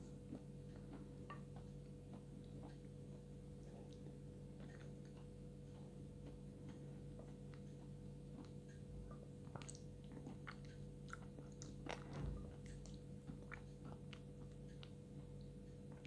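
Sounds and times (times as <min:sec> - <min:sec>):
chewing and crunching: 0:00.0 - 0:16.0.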